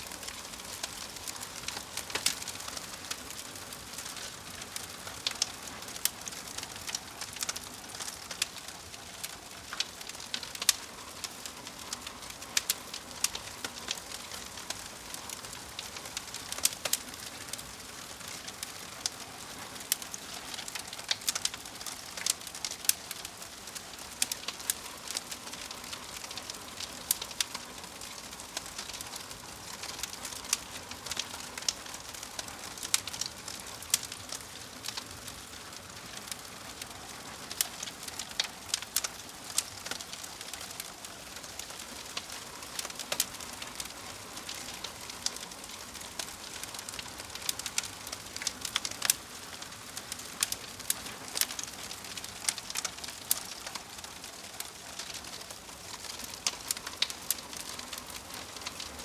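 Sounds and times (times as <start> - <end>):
fire popping and snapping: 0.0 - 59.0
soft fire hiss: 0.0 - 59.0.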